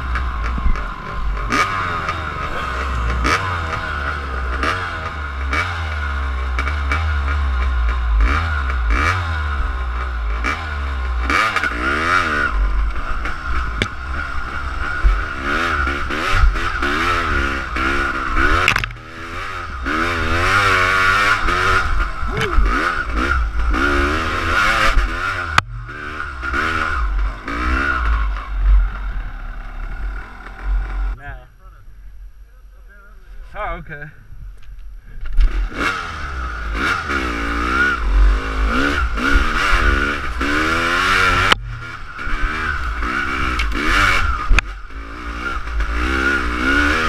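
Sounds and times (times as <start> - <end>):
dirt bike engine revving: 0.0 - 31.2, 35.3 - 47.0.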